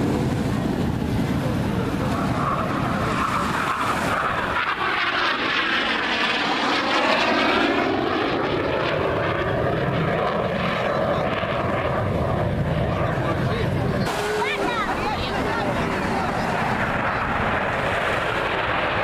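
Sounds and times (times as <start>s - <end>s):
jet engine roaring: 0.0s - 19.0s.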